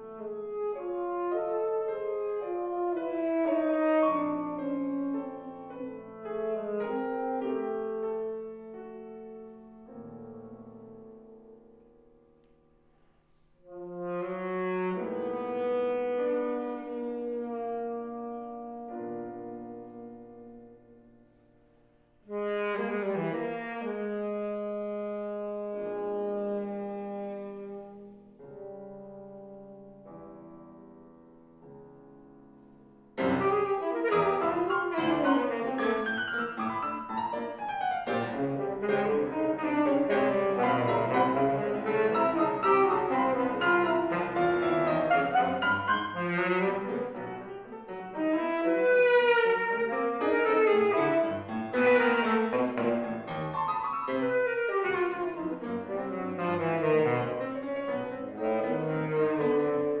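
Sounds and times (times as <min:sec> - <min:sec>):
tenor saxophone solo: 0:00.0 - 0:11.6, 0:13.6 - 0:21.2, 0:22.2 - 0:30.1, 0:33.2 - 1:00.0
grand piano accompaniment: 0:00.0 - 1:00.0.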